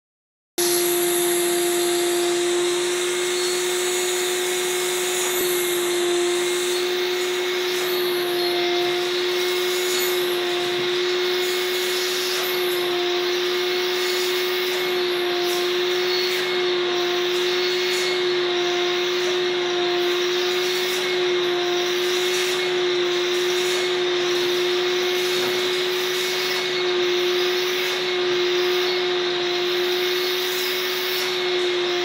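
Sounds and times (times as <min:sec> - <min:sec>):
vacuum motor humming with suction: 0:00.6 - 0:32.0.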